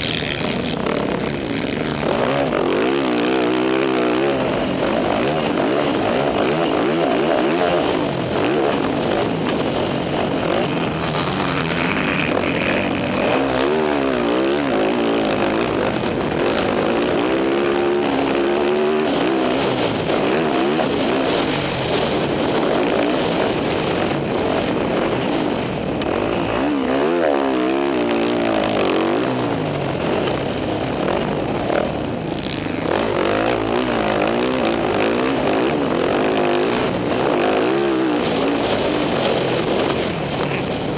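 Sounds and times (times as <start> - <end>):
dirt bike engine revving: 0.0 - 40.9
wind and road hiss: 0.0 - 40.9.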